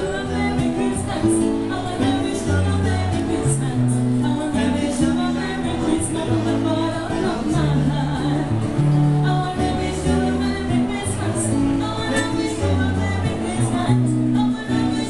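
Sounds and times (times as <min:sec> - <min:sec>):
acoustic guitar: 0:00.0 - 0:15.0
keyboard bass notes: 0:00.0 - 0:15.0
woman singing: 0:00.0 - 0:15.0.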